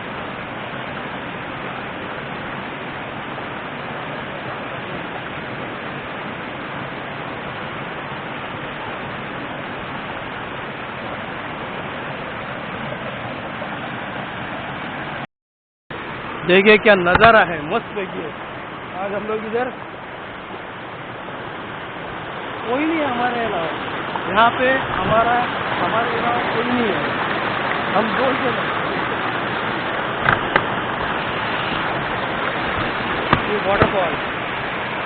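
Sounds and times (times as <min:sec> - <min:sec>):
river water rushing: 0:00.0 - 0:15.2, 0:15.9 - 0:35.0.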